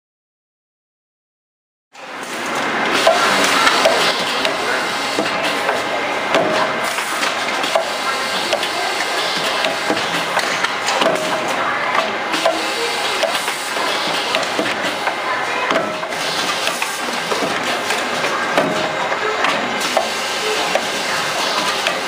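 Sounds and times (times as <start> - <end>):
machinery clattering: 2.0 - 22.0.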